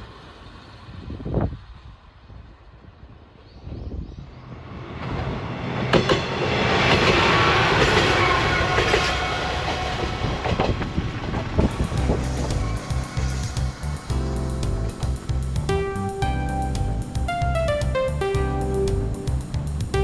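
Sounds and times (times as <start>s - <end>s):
diesel railcar rumbling past: 0.0s - 20.0s.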